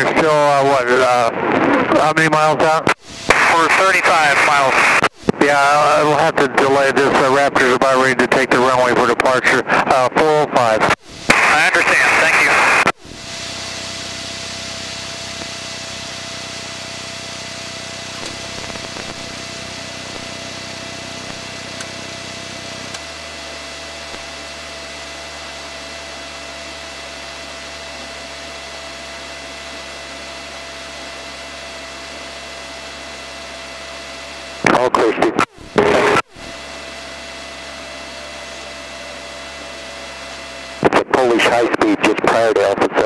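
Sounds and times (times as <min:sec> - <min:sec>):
aircraft engine running: 0:00.0 - 0:42.8
thin steady whine: 0:00.0 - 0:43.0.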